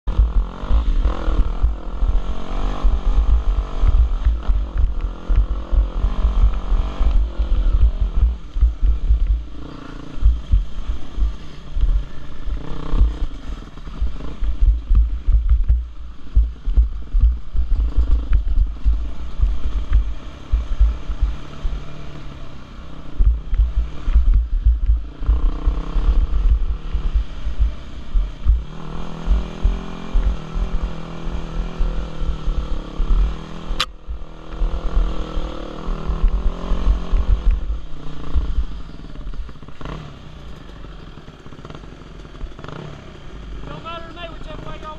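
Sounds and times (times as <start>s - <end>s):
heavy low rumble: 0.0s - 39.5s
dirt bike engine revving: 0.1s - 44.9s.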